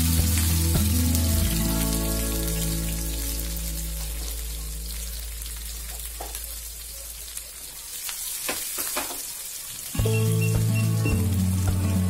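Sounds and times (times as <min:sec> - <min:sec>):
frying hiss in oil: 0:00.0 - 0:12.0.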